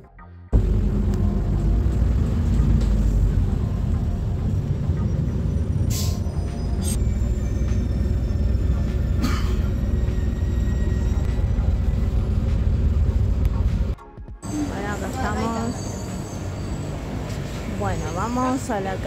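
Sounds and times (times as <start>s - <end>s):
bus engine and road noise: 0.5s - 19.0s.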